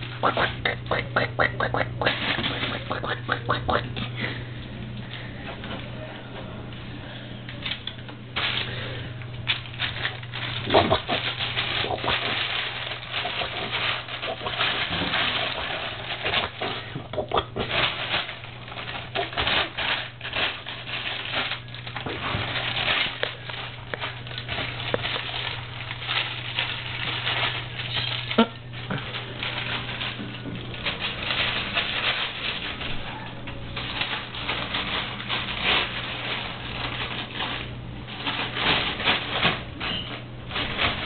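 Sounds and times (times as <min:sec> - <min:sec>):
plastic crinkling and rustling: 0:02.0 - 0:03.9, 0:07.5 - 0:41.0.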